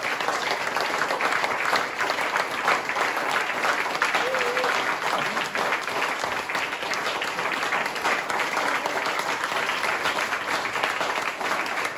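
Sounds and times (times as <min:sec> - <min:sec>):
audience applauding: 0:00.0 - 0:11.9
hands clapping close by: 0:00.0 - 0:11.9.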